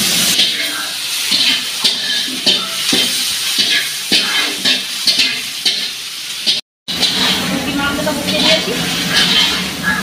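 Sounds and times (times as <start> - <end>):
metal spatula scraping pan: 0.0 - 10.0
oil sizzling: 0.0 - 10.0.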